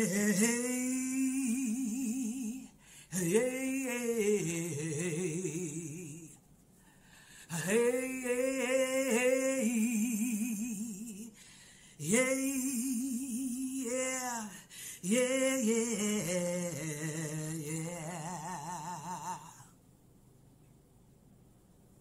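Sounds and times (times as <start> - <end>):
woman singing unaccompanied: 0.0 - 6.4, 7.5 - 11.4, 12.0 - 19.7.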